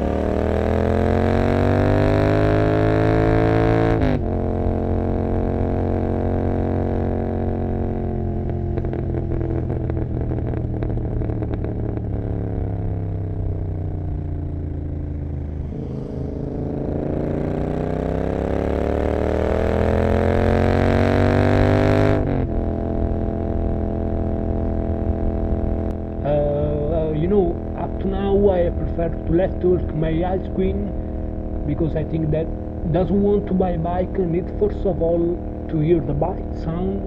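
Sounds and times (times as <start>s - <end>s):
exhaust crackling: 0.0s - 37.0s
motorcycle engine: 0.0s - 37.0s.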